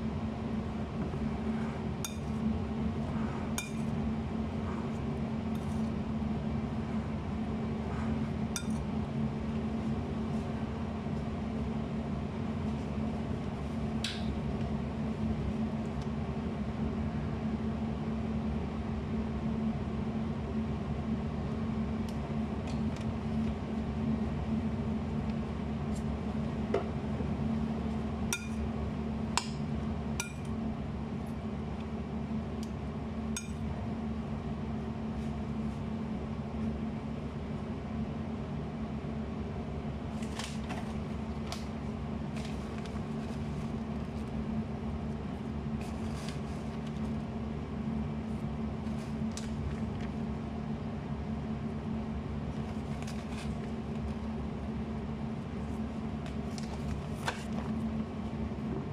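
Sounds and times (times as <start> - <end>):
low mechanical hum: 0.0 - 58.9.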